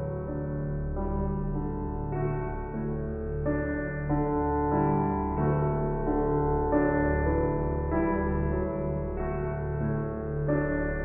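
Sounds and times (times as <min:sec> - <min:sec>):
soft ambient piano chords: 0:00.0 - 0:11.0.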